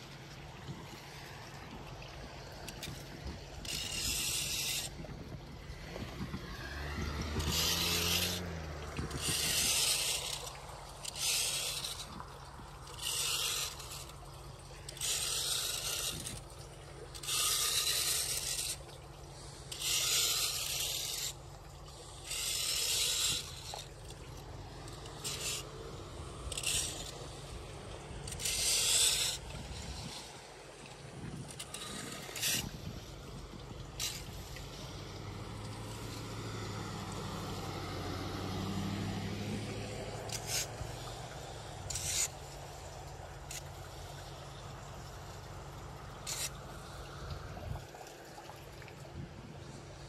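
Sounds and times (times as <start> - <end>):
hand rake scraping wet leaves: 2.4 - 48.8.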